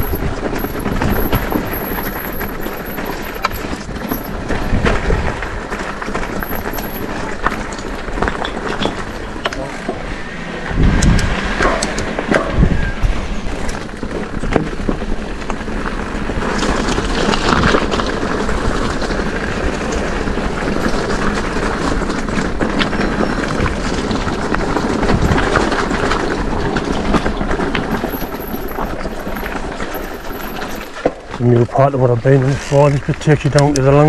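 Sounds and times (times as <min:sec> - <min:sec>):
bike rattling clicks and knocks: 0:00.0 - 0:10.1, 0:11.0 - 0:34.0
bike tyres rolling on rough track: 0:00.0 - 0:34.0
wind rumbling on microphone: 0:00.0 - 0:34.0.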